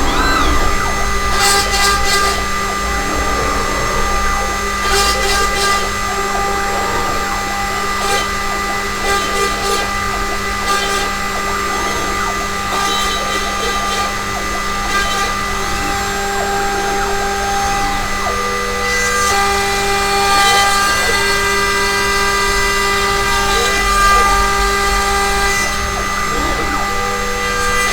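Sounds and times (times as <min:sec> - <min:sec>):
router cutting wood: 0:00.0 - 0:27.9
router spindle whine: 0:00.0 - 0:27.9
stepper motor tones: 0:00.0 - 0:27.9.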